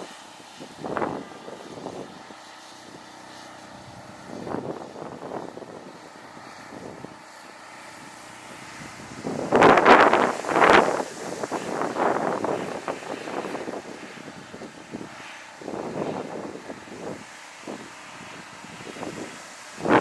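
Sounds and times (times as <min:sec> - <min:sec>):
wind buffeting microphone: 0:00.0 - 0:03.1, 0:03.7 - 0:07.2, 0:07.9 - 0:20.0
steady engine drone: 0:00.0 - 0:20.0.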